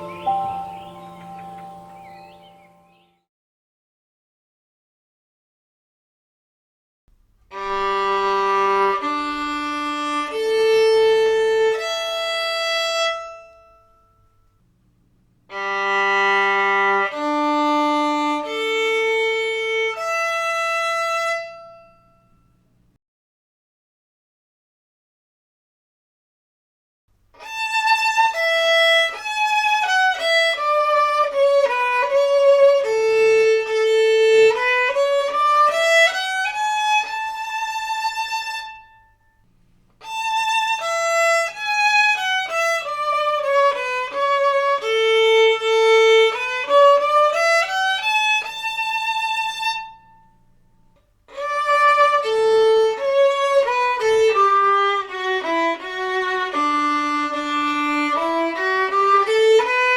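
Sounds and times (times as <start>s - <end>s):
violin bowed: 0.0s - 3.0s, 7.4s - 14.2s, 15.5s - 22.4s, 27.4s - 50.7s, 51.3s - 59.9s.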